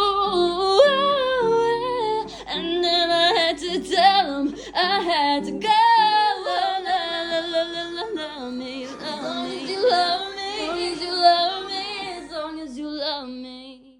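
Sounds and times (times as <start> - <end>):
harmony vocal line: 0.0 - 13.9
woman singing wordless notes: 0.0 - 13.9.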